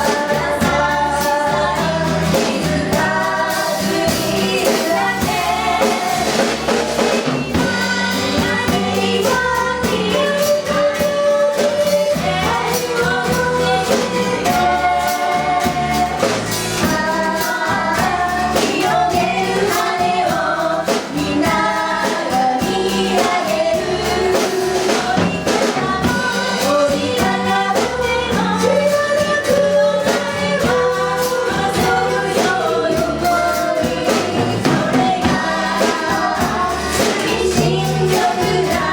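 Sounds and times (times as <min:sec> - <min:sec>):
band playing live: 0:00.0 - 0:38.9
percussion beat: 0:00.0 - 0:38.9
voices singing: 0:00.0 - 0:38.9.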